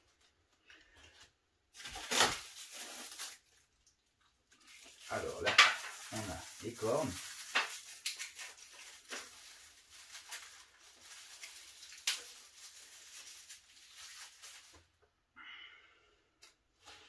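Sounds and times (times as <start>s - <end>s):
plastic packaging clicks and rustles: 0.1s - 15.1s.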